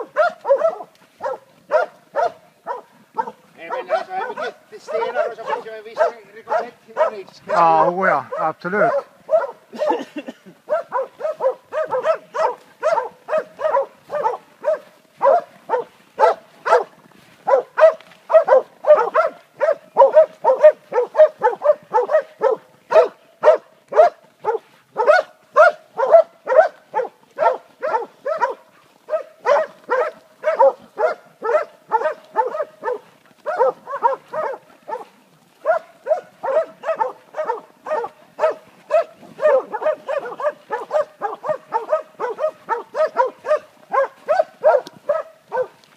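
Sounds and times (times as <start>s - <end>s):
dogs barking sharply: 0.0s - 45.8s.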